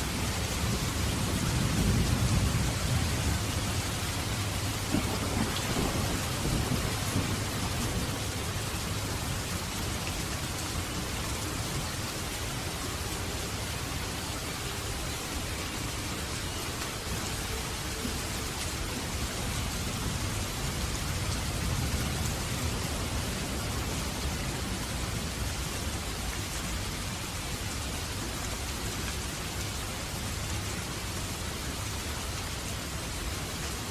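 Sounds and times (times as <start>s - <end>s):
rain hissing: 0.0s - 33.9s.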